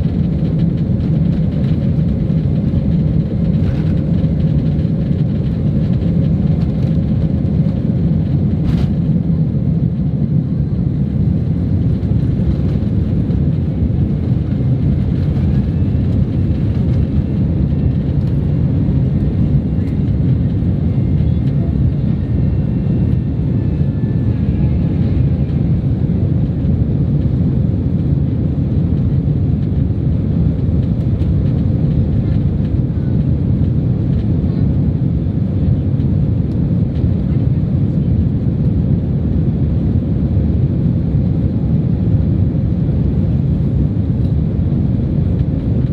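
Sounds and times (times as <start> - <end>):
airliner cabin rumble: 0.0 - 45.9.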